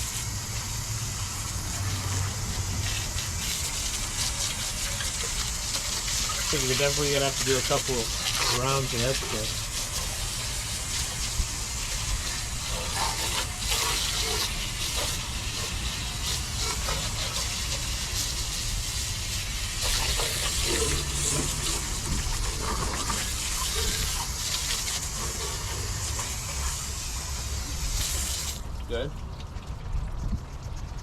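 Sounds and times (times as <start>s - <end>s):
water spray hissing on metal: 0.0s - 29.1s.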